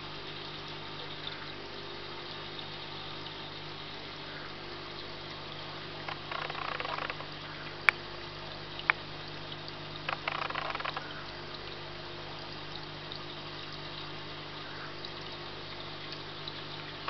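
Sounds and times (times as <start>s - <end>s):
small pump humming: 0.0s - 17.0s
water trickling and splashing: 0.0s - 17.0s.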